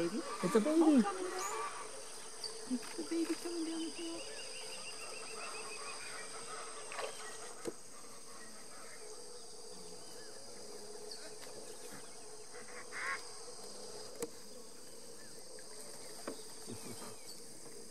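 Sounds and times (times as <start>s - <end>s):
insects buzzing chorus: 0.0s - 17.9s.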